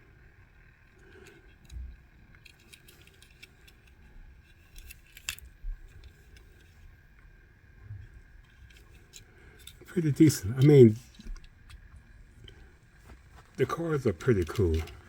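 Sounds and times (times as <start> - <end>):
model car clicks and rattles: 0.6 - 7.1, 8.0 - 12.7, 13.6 - 15.0.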